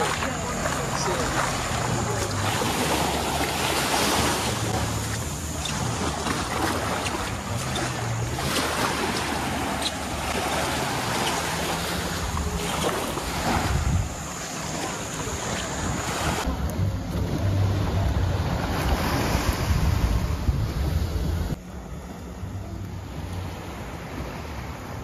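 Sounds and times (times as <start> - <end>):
wind buffeting microphone: 0.0 - 21.6
sea waves washing on beach: 0.0 - 25.0.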